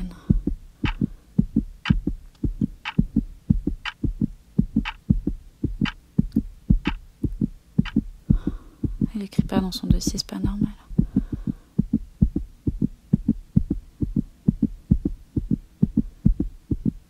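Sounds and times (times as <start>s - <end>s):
low thumps: 0.0s - 17.0s
wall clock ticking: 0.0s - 17.0s.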